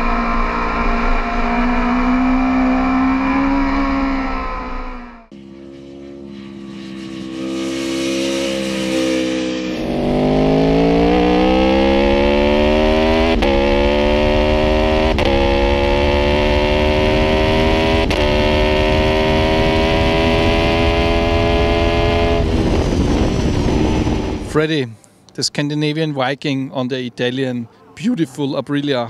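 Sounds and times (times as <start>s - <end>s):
motorcycle engine accelerating: 0.0s - 24.6s.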